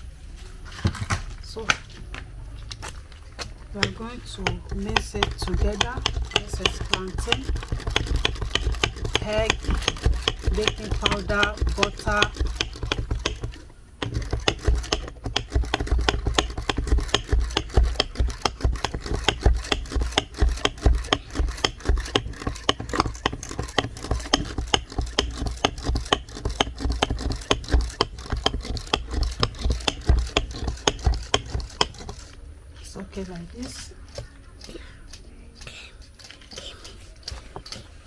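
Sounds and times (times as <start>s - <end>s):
batter mixed in a bowl: 2.4s - 38.0s.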